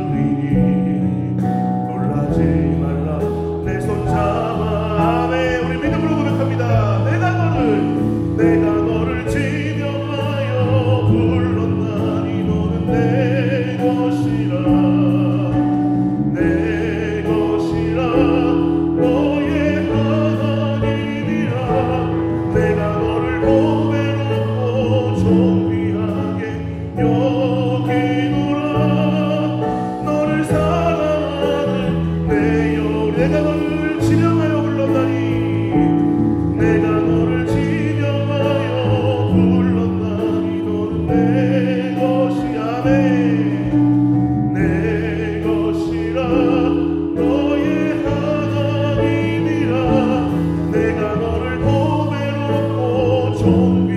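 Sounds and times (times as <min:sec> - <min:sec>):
electric bass guitar: 0:00.0 - 0:53.9
keyboard: 0:00.0 - 0:53.9.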